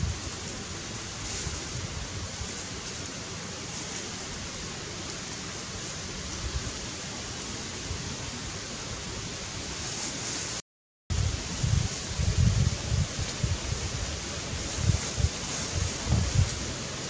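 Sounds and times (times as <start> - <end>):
outdoor rushing hiss: 0.0 - 17.0.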